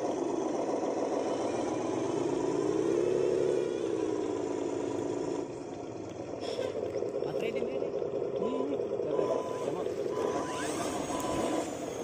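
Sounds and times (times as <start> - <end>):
model truck motors whirring: 0.0 - 12.0.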